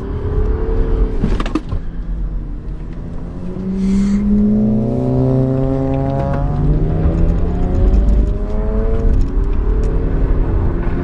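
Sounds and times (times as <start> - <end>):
diesel car engine accelerating: 0.0 - 11.0.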